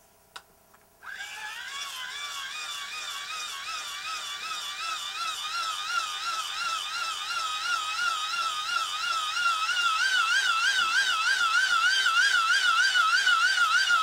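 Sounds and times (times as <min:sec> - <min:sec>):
hand-crank dynamo whirring: 0:01.0 - 0:14.0.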